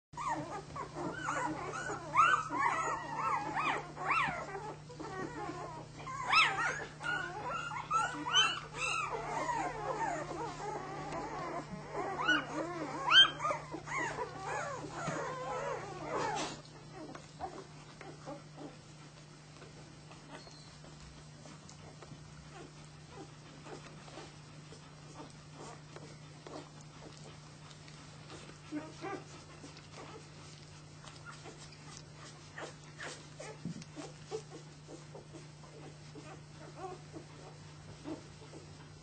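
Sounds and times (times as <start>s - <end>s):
puppies squealing and whimpering: 0.2s - 19.3s, 22.4s - 38.8s.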